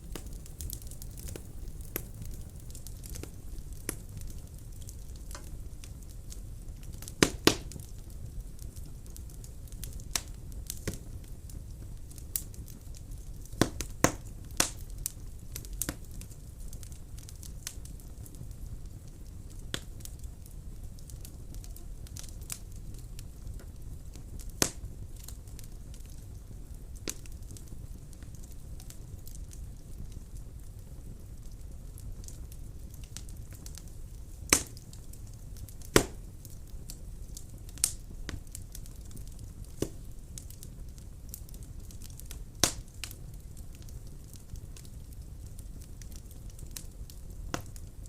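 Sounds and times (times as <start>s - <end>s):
fire crackling and popping: 0.0s - 48.0s
fire flames rumbling: 0.0s - 48.0s.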